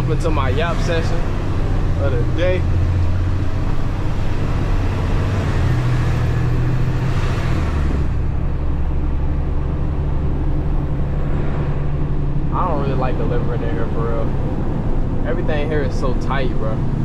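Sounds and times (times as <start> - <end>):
diesel truck engine running: 0.0 - 17.0
road and wind hiss: 0.0 - 17.0.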